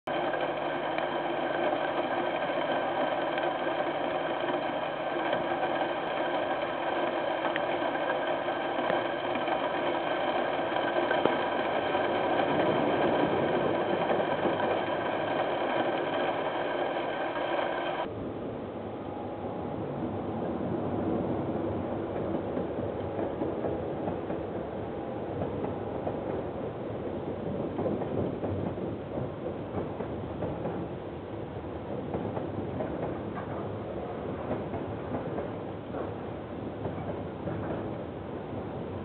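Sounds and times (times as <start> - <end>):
diesel train engine humming: 0.0 - 39.0.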